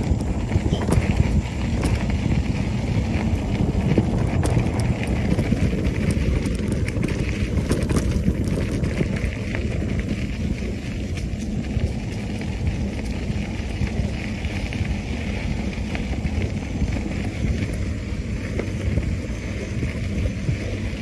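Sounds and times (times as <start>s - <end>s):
bike rattling and clicking: 0.0s - 21.0s
bike tyres rumbling on dirt: 0.0s - 21.0s
wind buffeting microphone: 0.0s - 21.0s.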